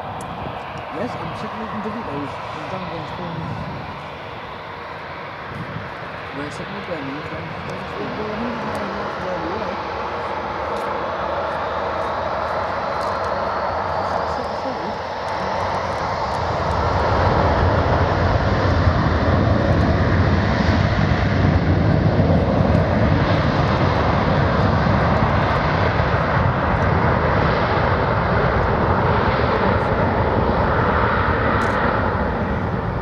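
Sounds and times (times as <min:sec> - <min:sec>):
jet engines spooling up: 0:00.0 - 0:33.0.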